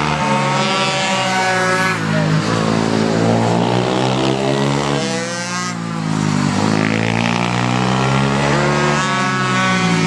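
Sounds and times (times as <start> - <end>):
pit bike engine revving: 0.0 - 10.0.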